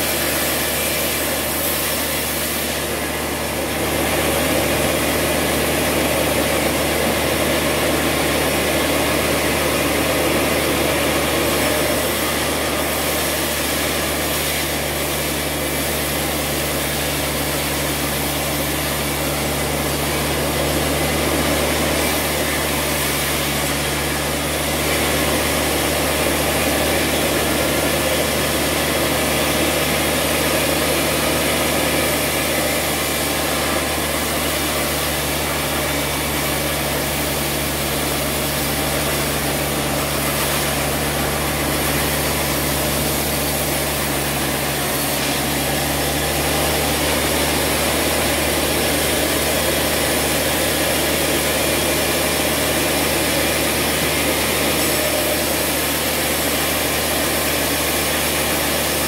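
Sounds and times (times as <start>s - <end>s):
band sawmill cutting a log: 0.0s - 59.0s.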